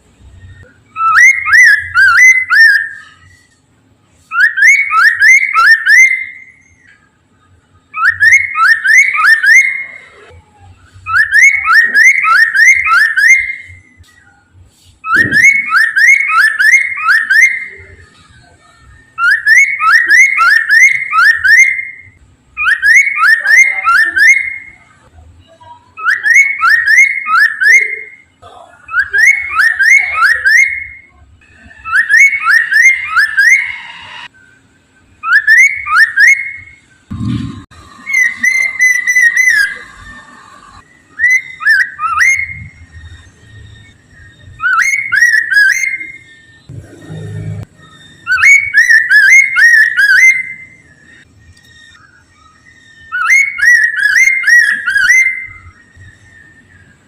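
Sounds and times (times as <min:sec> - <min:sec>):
bird singing whistled notes: 0:00.3 - 0:03.5, 0:04.3 - 0:07.1, 0:07.9 - 0:25.1, 0:25.9 - 0:28.3, 0:28.9 - 0:37.0, 0:37.8 - 0:57.0.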